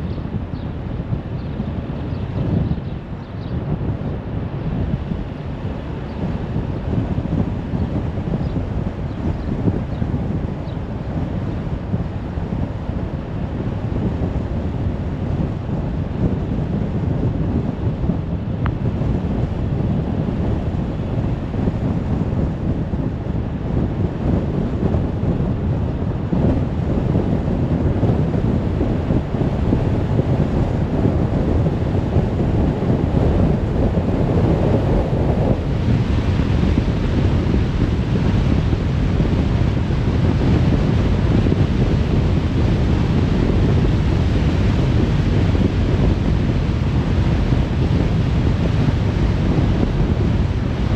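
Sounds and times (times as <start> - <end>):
wind noise: 0.0 - 50.9.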